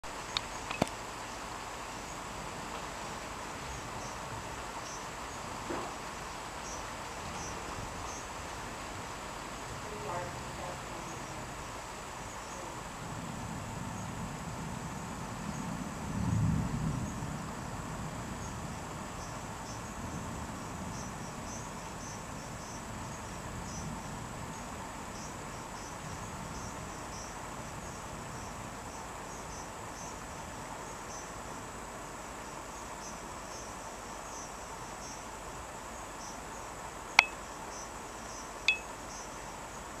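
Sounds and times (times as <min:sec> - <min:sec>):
night ambience hiss: 0:00.0 - 0:40.0
crickets chirping: 0:00.1 - 0:40.0.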